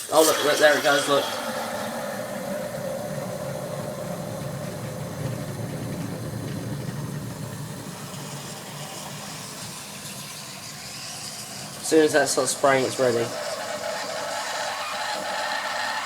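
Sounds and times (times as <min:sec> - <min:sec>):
thin steady tone: 0:00.0 - 0:16.0
water boiling with rumbling hiss: 0:00.0 - 0:16.0.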